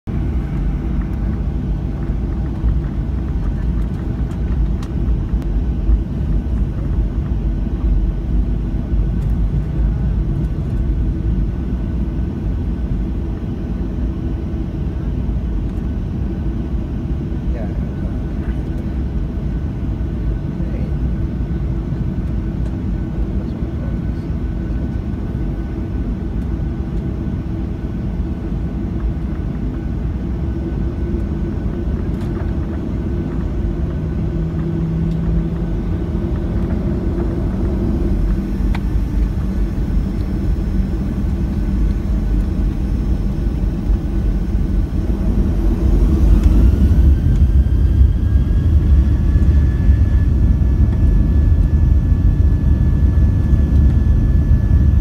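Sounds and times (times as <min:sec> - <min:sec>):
jet engines rumbling in cabin: 0:00.1 - 0:55.0
jet engines spooling up whine: 0:00.1 - 0:55.0.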